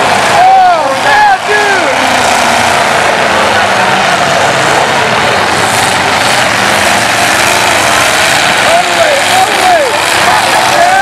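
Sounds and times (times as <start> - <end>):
car engines revving roar: 0.0 - 11.0.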